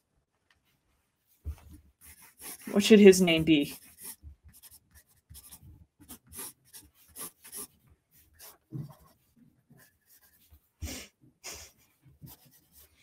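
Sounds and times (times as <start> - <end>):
pencil sketching on paper: 1.4 - 11.0, 11.7 - 13.0.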